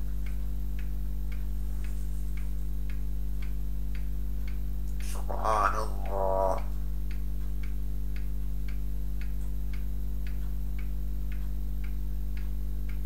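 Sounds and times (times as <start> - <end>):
steady low hum: 0.0 - 13.0
even ticking: 2.4 - 13.0.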